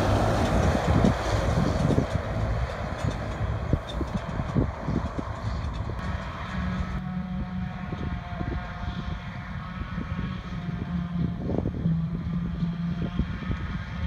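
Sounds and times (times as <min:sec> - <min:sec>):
diesel farm machinery running: 0:00.0 - 0:14.0.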